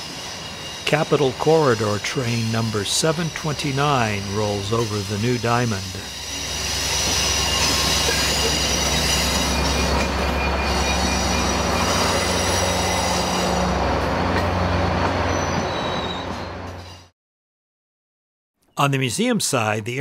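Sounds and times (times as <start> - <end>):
high thin wheel squeal: 0.0 - 13.8, 14.7 - 17.1
diesel locomotive engine: 0.0 - 17.1
train wheels rolling: 0.0 - 17.1.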